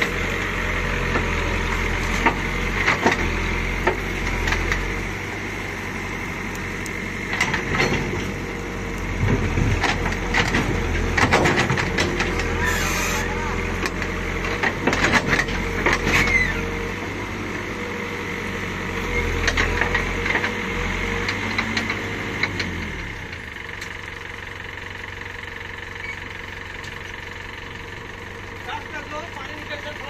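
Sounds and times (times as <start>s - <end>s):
diesel engine working hydraulics: 0.0s - 30.0s.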